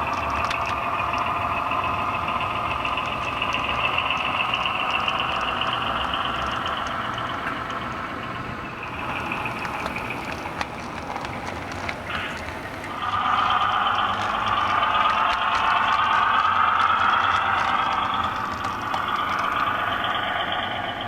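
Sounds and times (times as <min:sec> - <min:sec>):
model train whining: 0:00.0 - 0:21.0.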